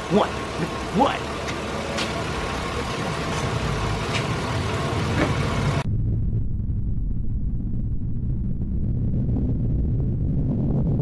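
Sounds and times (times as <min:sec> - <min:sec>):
vehicle engine running: 0:00.0 - 0:10.2
low rumble: 0:00.4 - 0:11.0.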